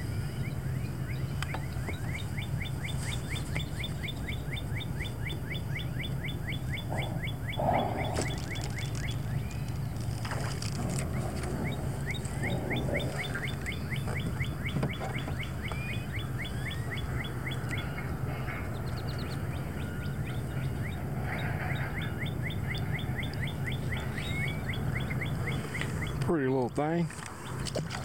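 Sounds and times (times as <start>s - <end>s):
bird trill: 0.0s - 26.6s
bird chirping: 0.0s - 27.8s
steady low hum: 0.0s - 28.0s.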